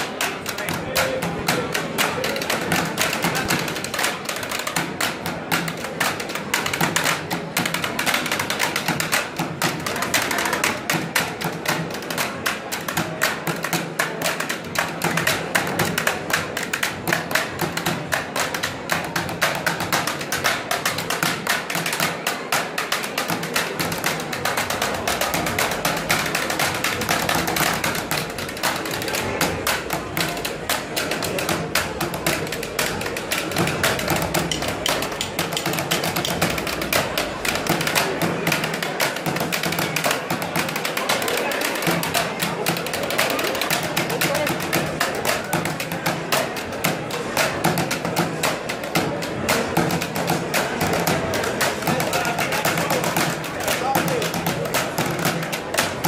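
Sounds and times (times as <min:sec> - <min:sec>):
drumsticks striking plastic helmets: 0:00.0 - 0:56.0.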